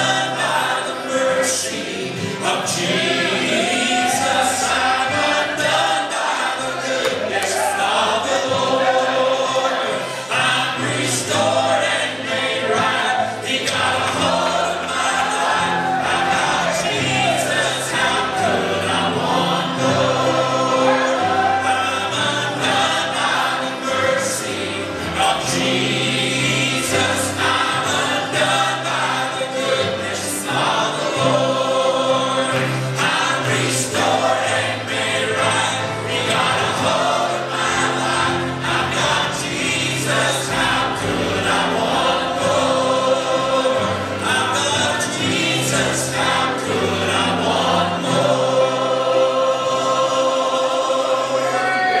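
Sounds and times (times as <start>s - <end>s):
choir singing gospel: 0.0s - 52.0s
lead singers on microphones: 0.0s - 52.0s.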